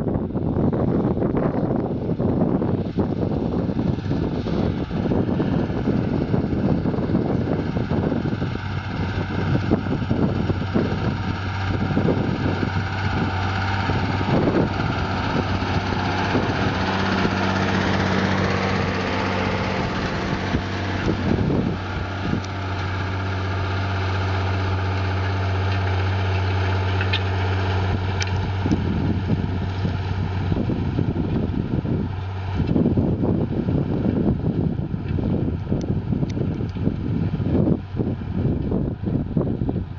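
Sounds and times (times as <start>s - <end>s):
diesel engine running: 0.0s - 39.9s
wind buffeting microphone: 0.0s - 39.9s.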